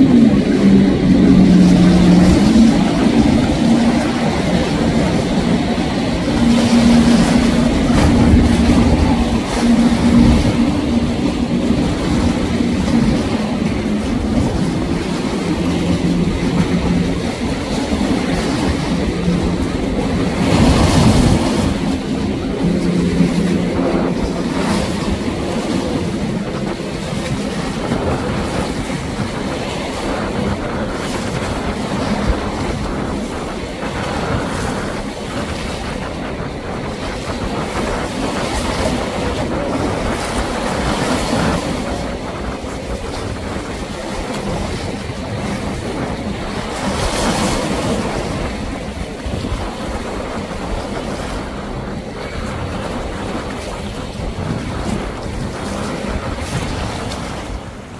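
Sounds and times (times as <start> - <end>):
boat engines droning: 0.0 - 57.9
waves rushing: 0.0 - 57.9
wind buffeting microphone: 0.0 - 57.9.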